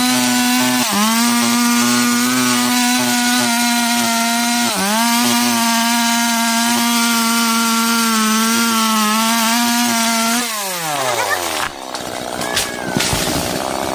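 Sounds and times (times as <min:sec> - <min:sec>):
chainsaw cutting wood: 0:00.0 - 0:13.9.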